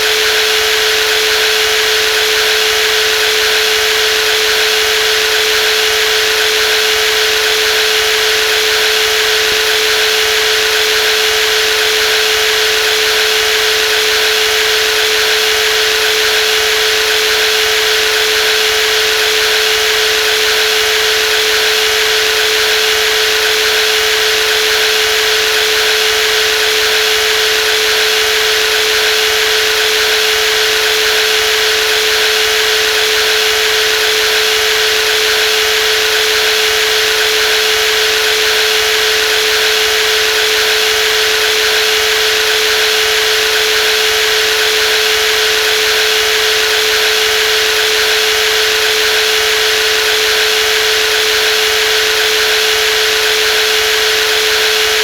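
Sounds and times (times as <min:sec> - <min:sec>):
jigsaw running with high hum: 0:00.0 - 0:55.0.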